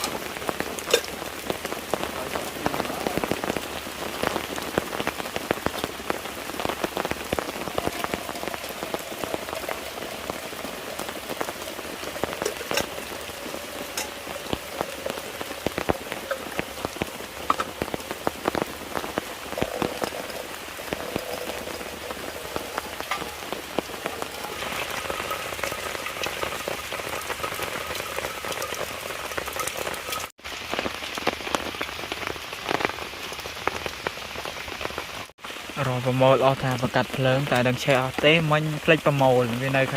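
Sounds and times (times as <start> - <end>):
close raindrop hits: 0.0 - 39.9
rain falling: 0.0 - 39.9.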